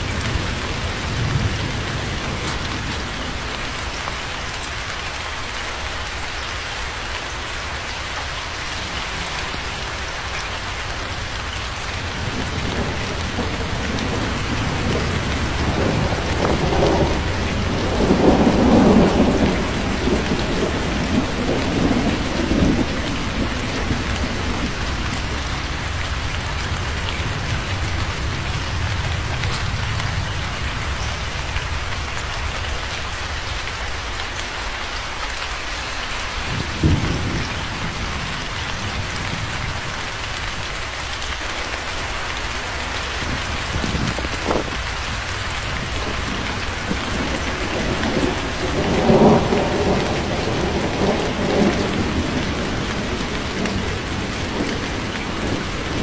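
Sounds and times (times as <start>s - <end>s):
rolling thunder: 0.0s - 4.3s, 10.8s - 33.4s, 36.4s - 40.9s, 41.9s - 56.0s
steady rain falling: 0.0s - 56.0s.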